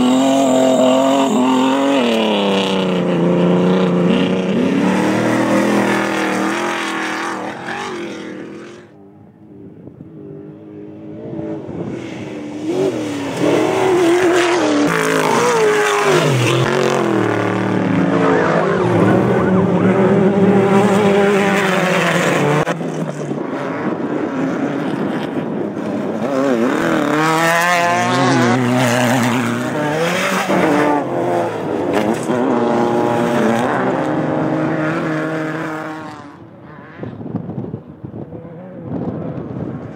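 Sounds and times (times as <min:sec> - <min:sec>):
race vehicle engines revving: 0:00.0 - 0:39.9.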